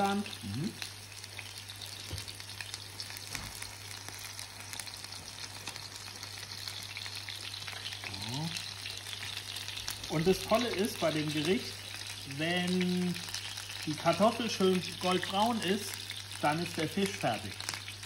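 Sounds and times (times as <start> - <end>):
fish frying in oil: 0.0 - 18.0.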